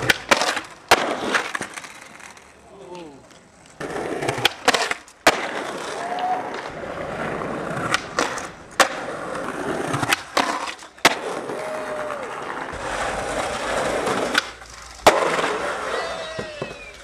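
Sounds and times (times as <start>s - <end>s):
skateboard clacks: 0.0s - 17.0s
skateboard wheels rolling on stone: 0.0s - 17.0s.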